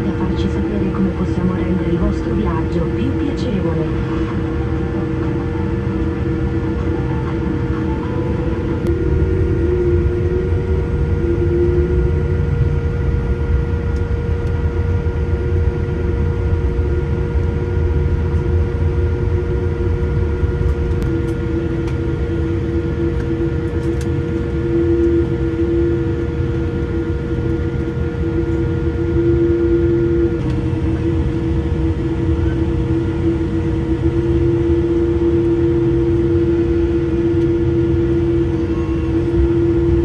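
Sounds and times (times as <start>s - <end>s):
airliner cabin rumble and whine: 0.0s - 40.0s.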